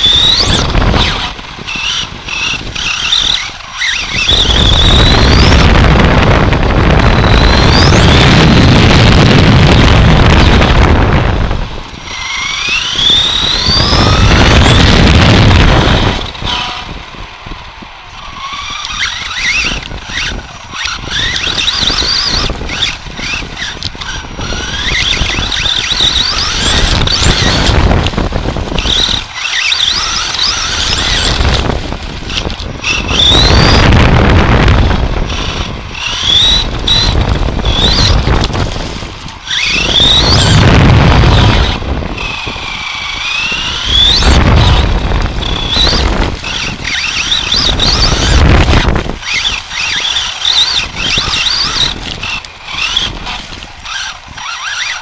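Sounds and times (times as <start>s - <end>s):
rushing wind: 0.0s - 55.0s
toy truck motor whine: 0.0s - 55.0s.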